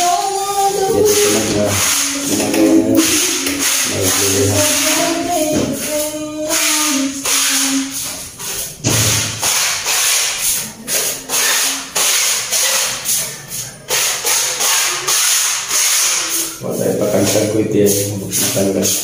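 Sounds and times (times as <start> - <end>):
music with steady beat: 0.0 - 19.0
sharp percussive hits: 0.7 - 8.2, 8.8 - 19.0.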